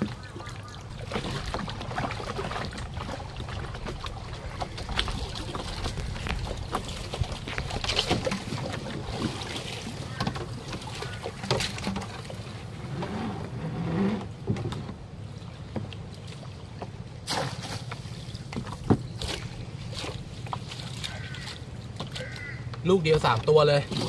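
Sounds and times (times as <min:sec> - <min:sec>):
water splashing around boat: 0:00.0 - 0:24.0.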